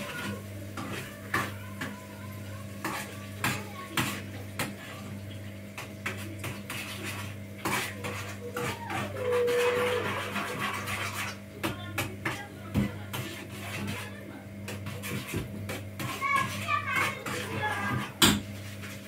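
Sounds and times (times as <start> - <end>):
metal utensil scraping frying pan: 0.0 - 2.0, 2.6 - 5.0, 5.8 - 19.0.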